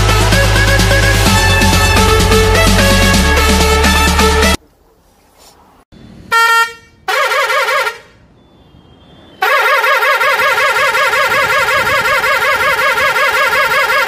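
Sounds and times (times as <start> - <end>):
truck horn warbling: 0.0 - 4.6, 6.3 - 8.2, 9.2 - 14.0.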